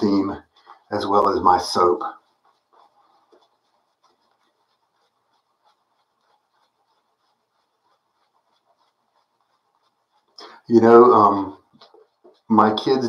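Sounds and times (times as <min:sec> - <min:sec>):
shaving brush brushing on beard: 0:00.0 - 0:13.0.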